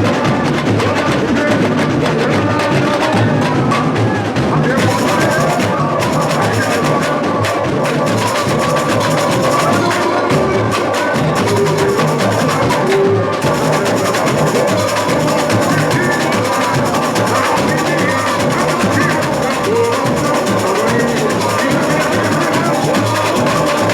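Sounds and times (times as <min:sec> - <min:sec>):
samba drum and percussion band: 0:00.0 - 0:23.9.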